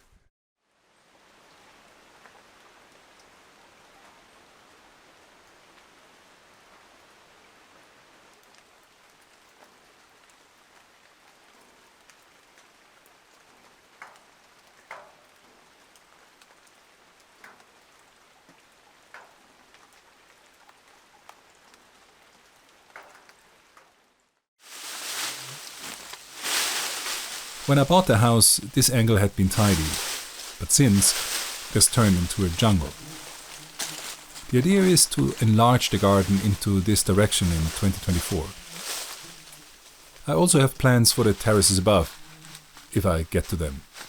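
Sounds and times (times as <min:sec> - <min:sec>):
light rain falling: 0:00.0 - 0:44.0.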